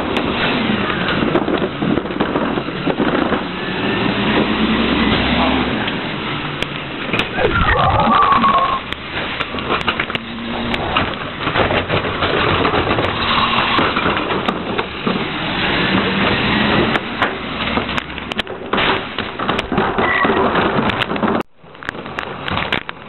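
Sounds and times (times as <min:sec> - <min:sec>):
garbage truck engine drone: 0:00.0 - 0:23.0.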